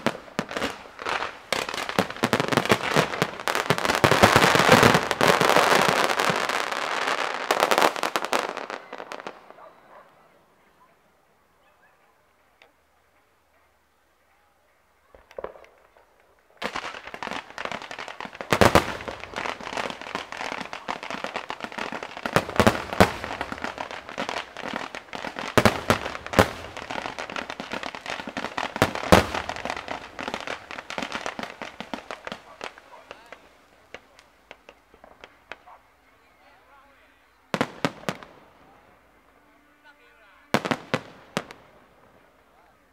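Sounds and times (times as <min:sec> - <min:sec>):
fireworks bangs: 0:00.0 - 0:09.9, 0:15.1 - 0:35.8, 0:37.3 - 0:42.4
fireworks crackling: 0:00.0 - 0:10.2, 0:15.0 - 0:42.9.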